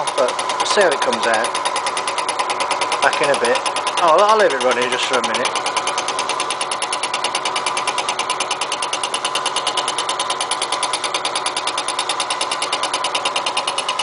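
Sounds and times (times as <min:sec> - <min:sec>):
milling machine whine: 0:00.0 - 0:14.0.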